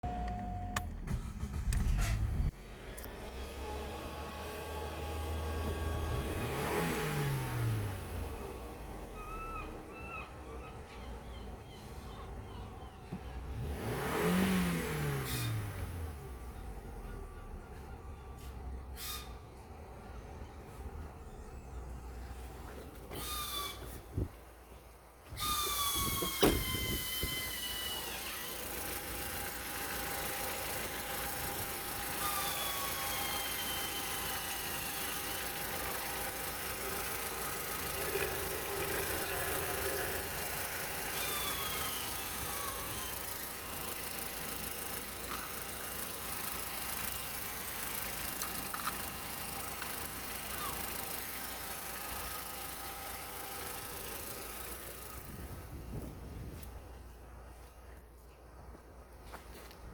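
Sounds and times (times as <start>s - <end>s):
car engine starting and running: 0.0s - 59.8s.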